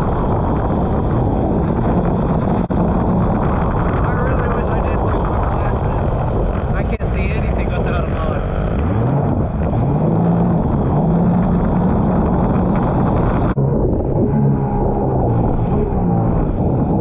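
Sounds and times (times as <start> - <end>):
jet ski engine running: 0.0 - 17.0
wind buffeting microphone: 0.0 - 17.0.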